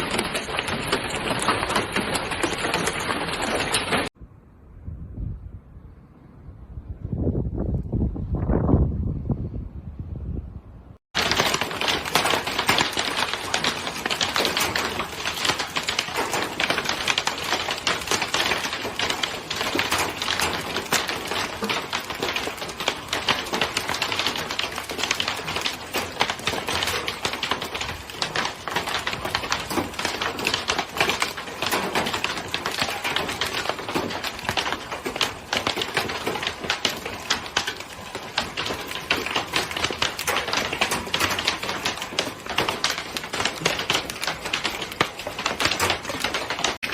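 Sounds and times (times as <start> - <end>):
hailstones pelting hard surfaces: 0.0 - 4.2, 11.1 - 46.9.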